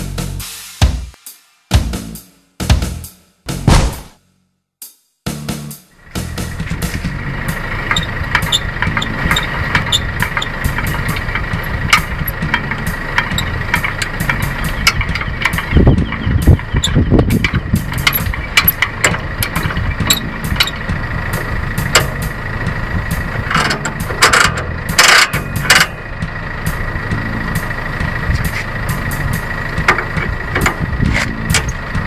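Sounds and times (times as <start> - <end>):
engine rumbling surges: 6.0 - 32.0
vehicle engine idling: 6.0 - 32.0.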